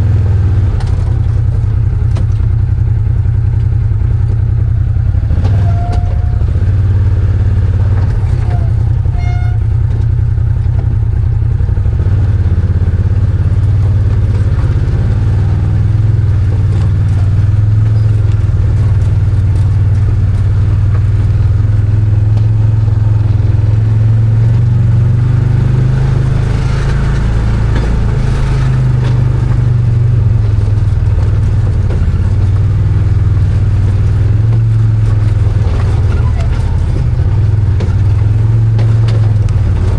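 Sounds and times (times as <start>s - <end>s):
v-twin engine running: 0.0s - 39.9s.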